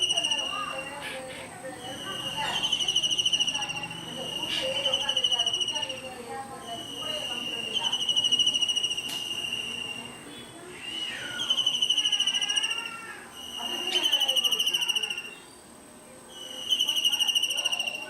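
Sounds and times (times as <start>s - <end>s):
kingfisher rattling trills: 0.0s - 15.6s, 16.3s - 18.0s.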